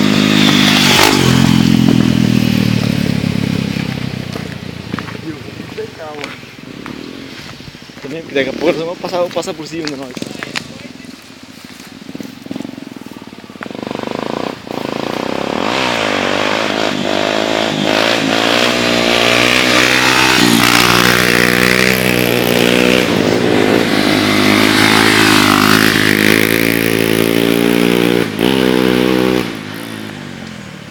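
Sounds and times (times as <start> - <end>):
motorcycle engine revving: 0.0 - 9.2, 9.9 - 30.9.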